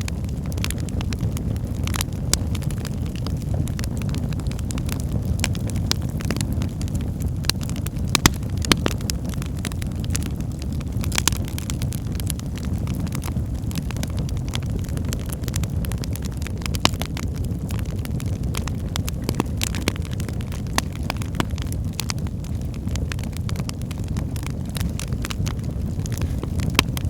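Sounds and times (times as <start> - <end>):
fire crackles and pops: 0.0 - 27.0
fire rumbling in fireplace: 0.0 - 27.0.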